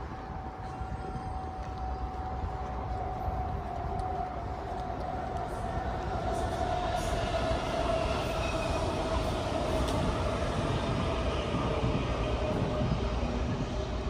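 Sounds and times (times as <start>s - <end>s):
train running past: 0.0s - 14.0s.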